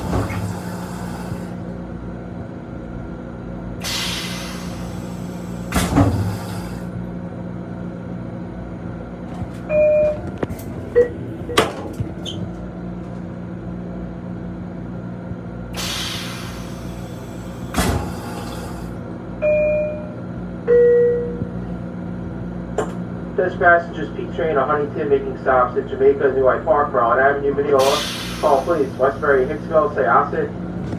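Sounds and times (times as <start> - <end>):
train hum: 0.0 - 30.9.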